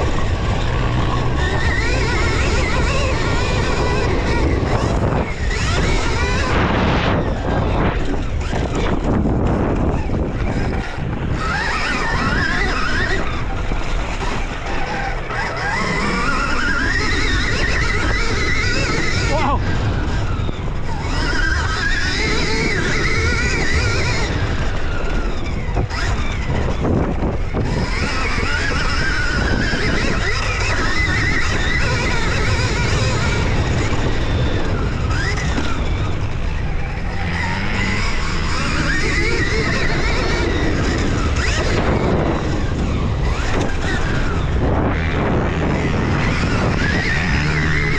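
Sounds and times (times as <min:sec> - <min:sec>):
dirt bike riding: 0:00.0 - 0:47.9
motor whine wavering in pitch: 0:00.0 - 0:47.9
wind rumble on microphone: 0:00.0 - 0:47.9.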